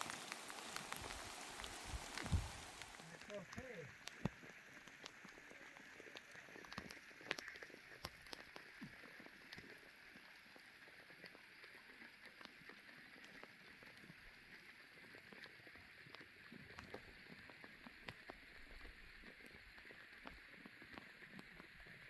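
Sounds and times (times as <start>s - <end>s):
faint rain patter: 0.0s - 22.0s
raindrop ticks: 0.0s - 22.0s.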